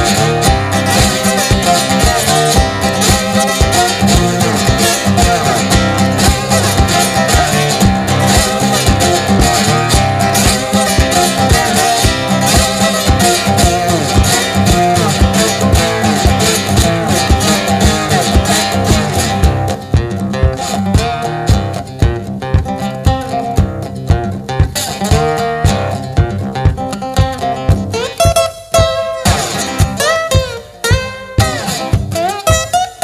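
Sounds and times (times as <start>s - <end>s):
slide guitar blues: 0.0s - 33.0s.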